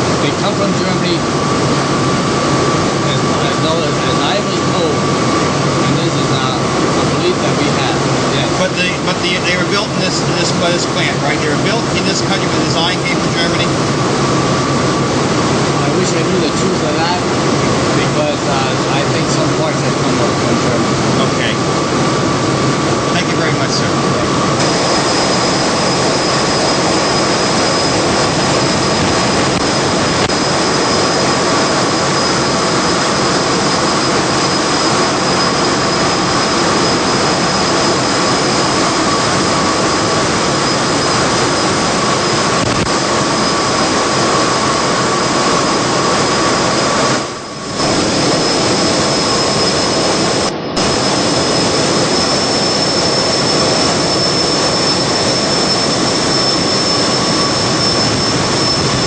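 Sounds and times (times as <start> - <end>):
blowers roaring: 0.0 - 59.0
constant high whine: 0.0 - 59.0.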